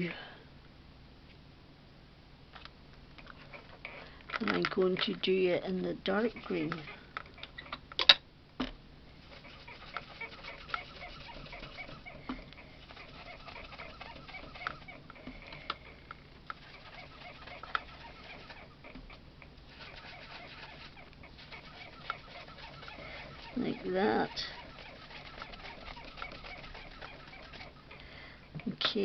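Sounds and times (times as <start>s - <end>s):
brush rubbing on card: 3.2s - 7.6s, 9.2s - 28.0s.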